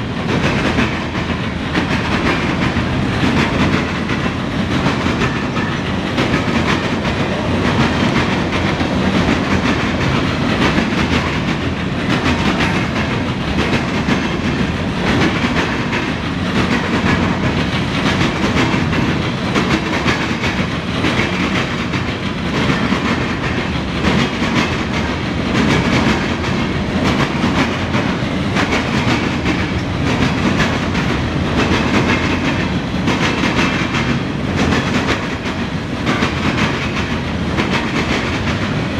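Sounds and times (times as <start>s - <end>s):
rail joint clicks: 0.0s - 38.9s
train wheels rumbling on rail: 0.0s - 38.9s.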